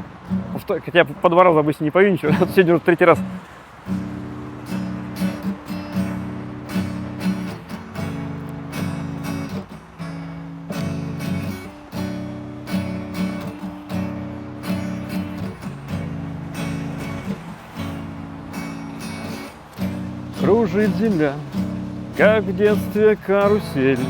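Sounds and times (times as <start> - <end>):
acoustic guitar strumming: 0.0 - 1.2, 2.3 - 24.0.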